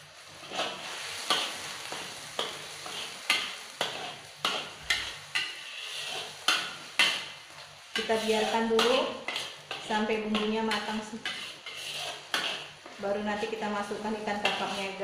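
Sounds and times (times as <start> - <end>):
spice paste sizzling in oil: 0.0 - 15.0
metal spatula scraping a wok: 0.2 - 15.0.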